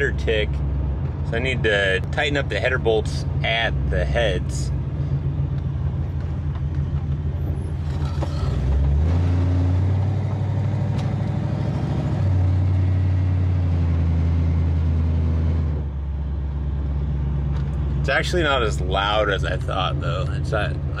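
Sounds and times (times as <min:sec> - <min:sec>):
car engine drone inside cabin: 0:00.0 - 0:21.0.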